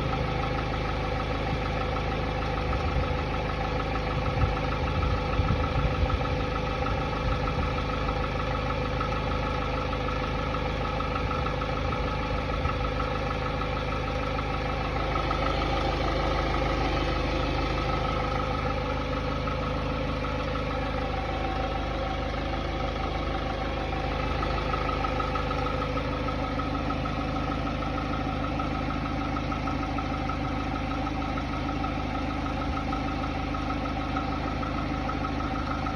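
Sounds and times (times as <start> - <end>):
car engine idling with knocking: 0.0 - 35.9.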